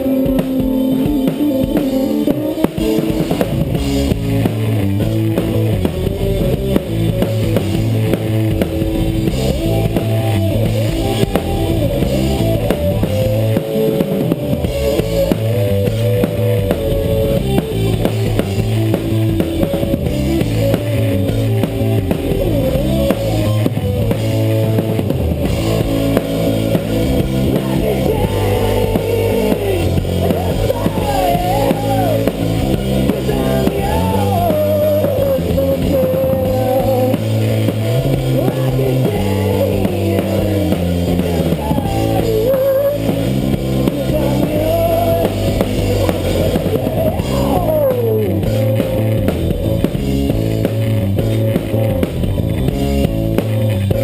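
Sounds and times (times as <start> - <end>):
drum kit beat: 0.0 - 54.0
electric guitar lead line: 0.0 - 54.0
rock band playing: 0.0 - 54.0.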